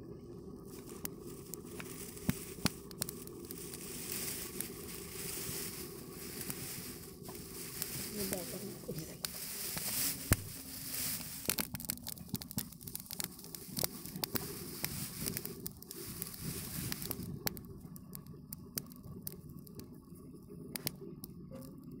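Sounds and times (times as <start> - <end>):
straw fire crackling: 0.0 - 22.0.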